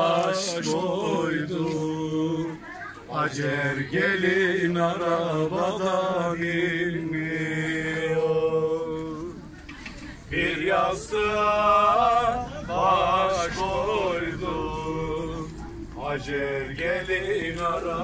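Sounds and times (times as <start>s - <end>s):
man singing unaccompanied: 0.0s - 9.4s, 10.3s - 18.0s.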